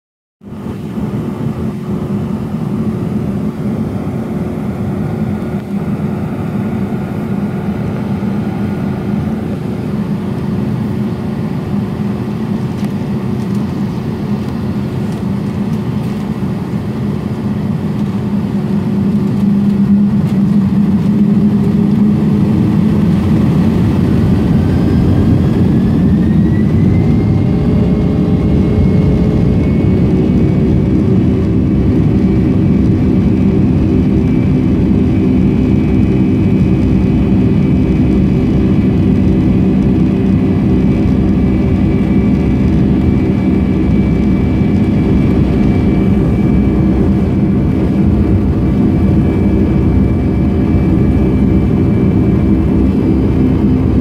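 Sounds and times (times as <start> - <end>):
jet engine whine rising: 0.4 - 54.0
jet engines humming from cabin: 0.4 - 54.0.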